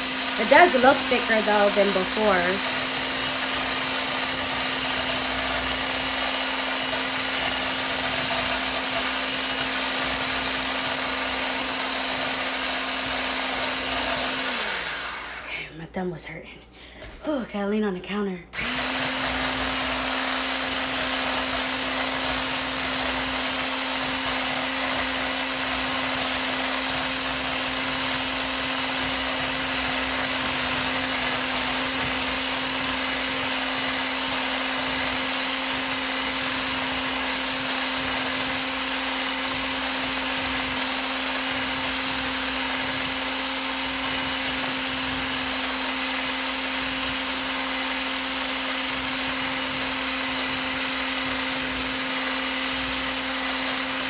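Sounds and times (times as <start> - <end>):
electric milk frother whirring: 0.0 - 15.5, 18.6 - 54.0.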